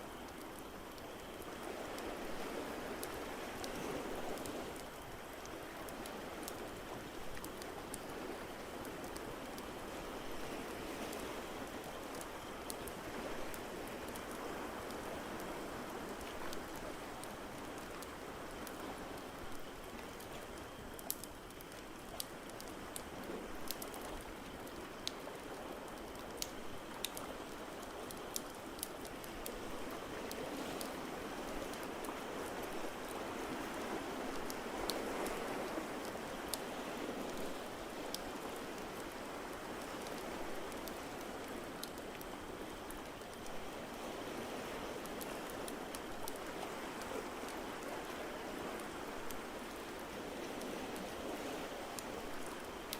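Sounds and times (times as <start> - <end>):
ocean waves: 0.0 - 20.7, 22.5 - 52.9.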